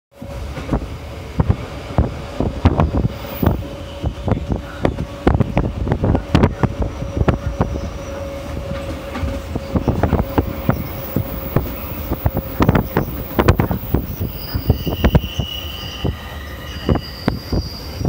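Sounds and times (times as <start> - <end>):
train rumbling over rails: 0.1 - 18.0.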